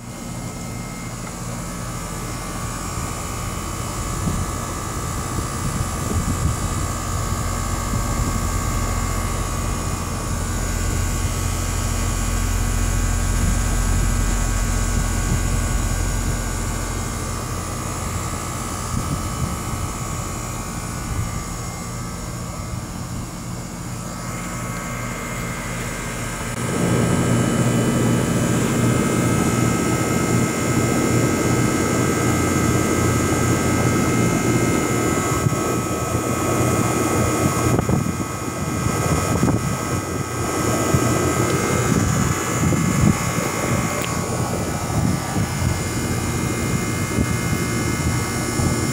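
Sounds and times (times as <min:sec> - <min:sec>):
air conditioner fan and hum: 0:00.0 - 0:48.9.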